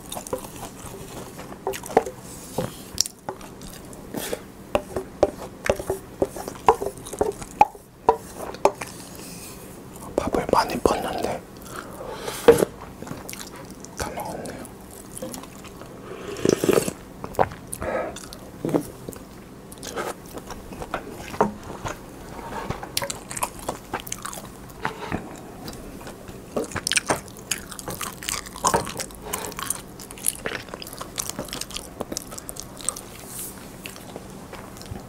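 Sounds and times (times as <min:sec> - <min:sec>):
person chewing: 0:00.0 - 0:09.3, 0:09.9 - 0:35.0.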